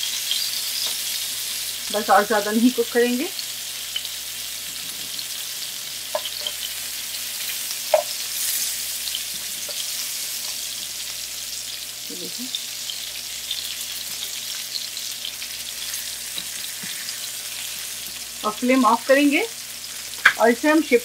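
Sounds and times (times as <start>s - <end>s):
frying sizzle with pops: 0.0s - 21.0s.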